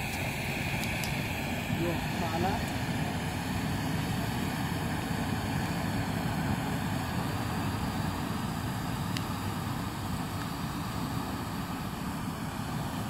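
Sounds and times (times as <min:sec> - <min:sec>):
smoke grenade hissing: 0:00.0 - 0:13.0.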